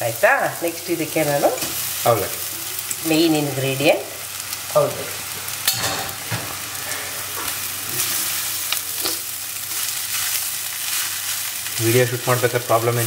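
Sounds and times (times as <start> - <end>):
onions sizzling in a hot pan: 0.0 - 13.0.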